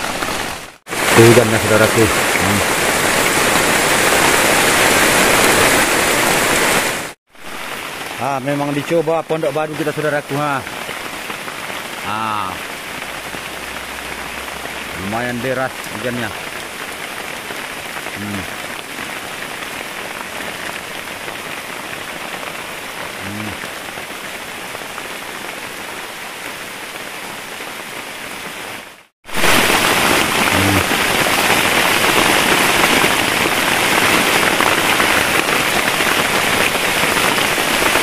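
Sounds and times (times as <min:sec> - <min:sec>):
heavy rain on roof: 0:00.0 - 0:38.0.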